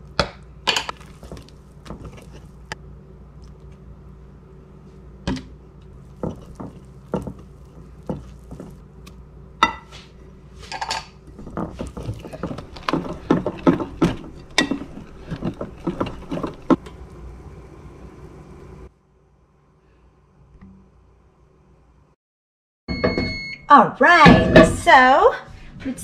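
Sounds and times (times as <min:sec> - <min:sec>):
low steady hum: 0:00.0 - 0:22.2.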